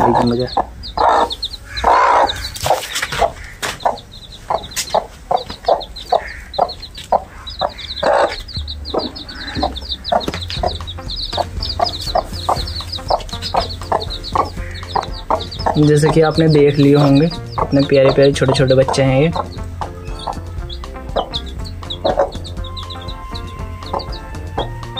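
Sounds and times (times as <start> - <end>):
chicks peeping: 0.0 - 24.9
hen clucking: 0.0 - 24.9.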